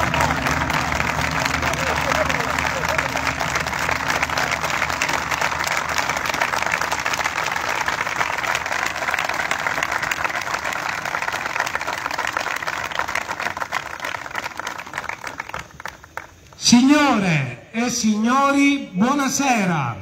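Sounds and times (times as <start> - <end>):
crowd applauding: 0.0 - 16.6.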